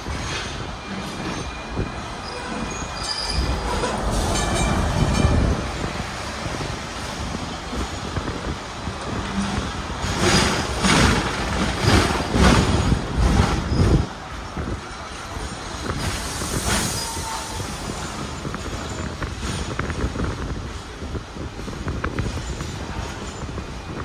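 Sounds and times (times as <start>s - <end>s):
tram clattering over track: 0.0s - 24.0s
tram rumbling: 0.0s - 24.0s.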